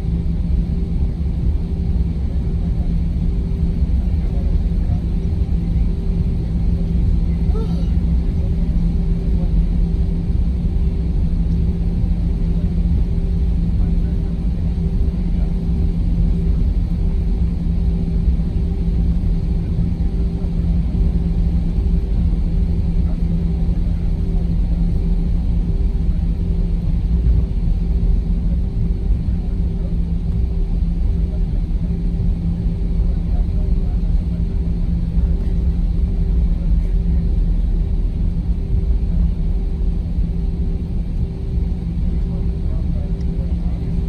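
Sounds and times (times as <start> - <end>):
aircraft cabin rumble: 0.0 - 44.0
constant low hum: 0.0 - 44.0.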